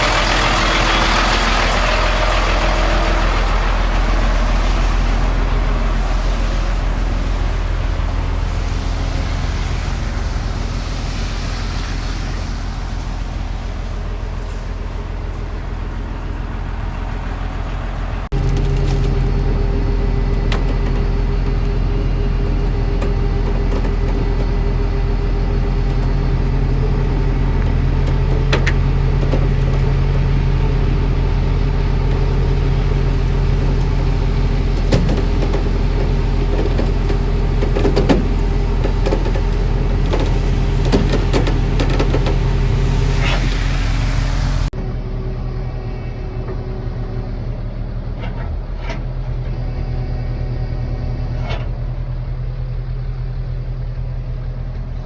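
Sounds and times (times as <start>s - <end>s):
vehicle engine humming: 0.0s - 55.0s.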